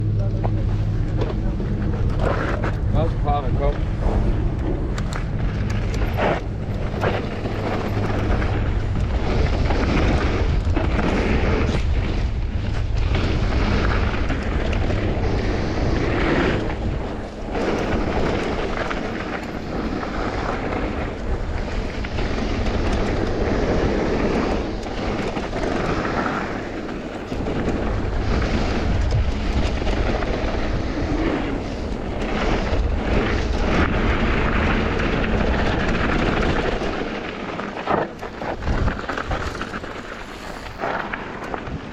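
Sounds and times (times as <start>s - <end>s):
bike knocks and rattles: 0.0s - 41.9s
tyres rolling over gravel: 0.0s - 41.9s
wind rush on microphone: 0.0s - 41.9s.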